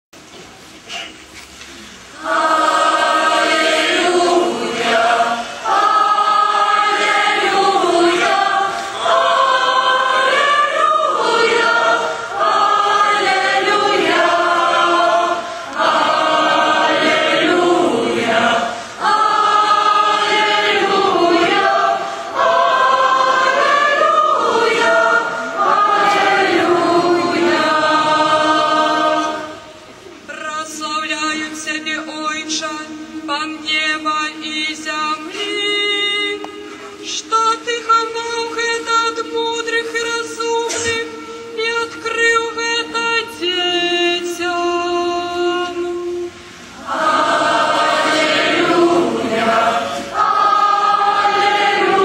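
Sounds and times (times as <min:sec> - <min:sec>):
women singing a hymn: 0:02.1 - 0:30.5, 0:32.9 - 0:52.0.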